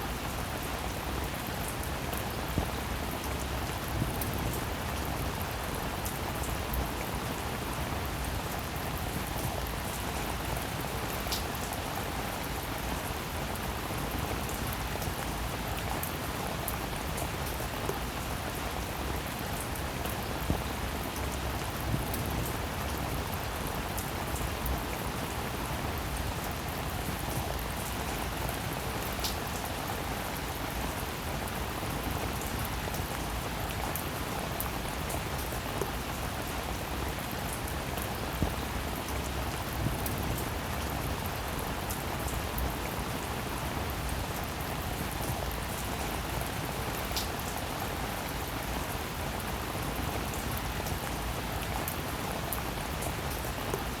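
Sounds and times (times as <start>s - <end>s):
rain on hard surface: 0.0s - 54.0s.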